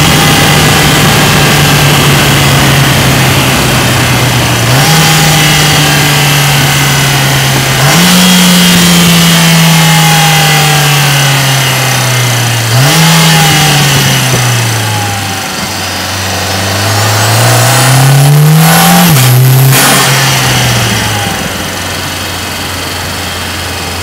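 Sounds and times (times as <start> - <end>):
car engine accelerating: 0.0 - 24.0
high whine: 0.0 - 24.0.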